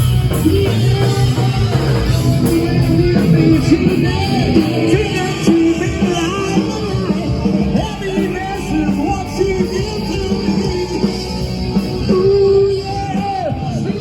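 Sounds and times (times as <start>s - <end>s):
electric guitar: 0.0s - 14.0s
hard rock band playing: 0.0s - 14.0s
person singing: 0.1s - 14.0s.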